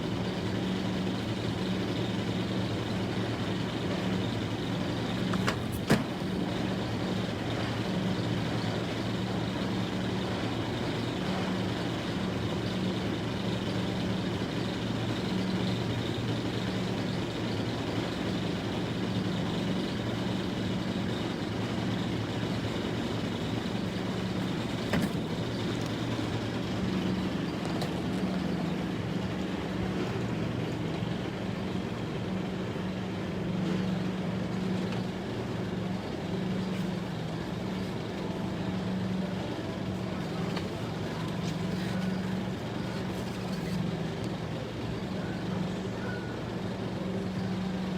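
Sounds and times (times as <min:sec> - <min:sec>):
car engine hum: 0:00.0 - 0:47.9
road noise: 0:00.0 - 0:47.9.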